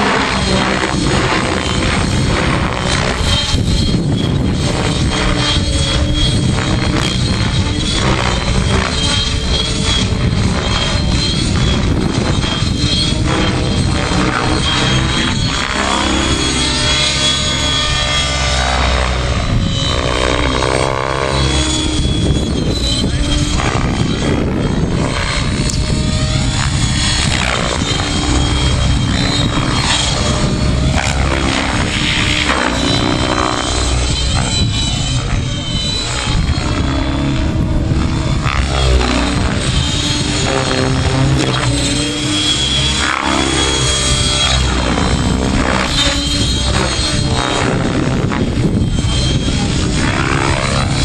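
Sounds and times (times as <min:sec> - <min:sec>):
model helicopter motor whine: 0:00.0 - 0:51.0.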